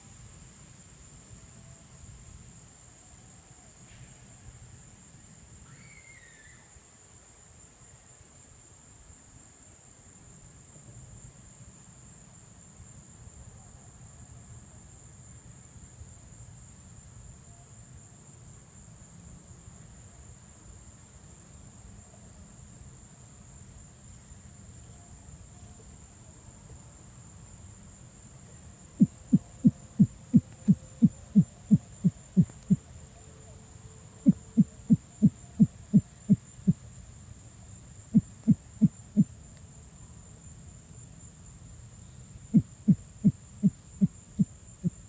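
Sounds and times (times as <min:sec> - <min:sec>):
crickets chirping chorus: 0:00.0 - 0:45.0.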